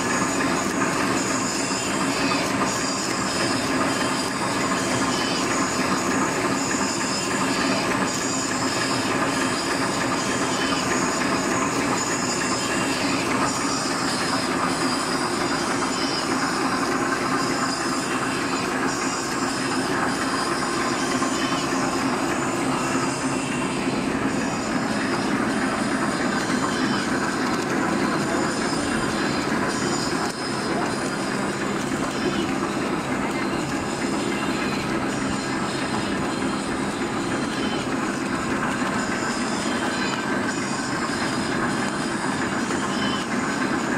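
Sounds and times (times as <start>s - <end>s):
machine clattering rapidly: 0.0s - 43.9s.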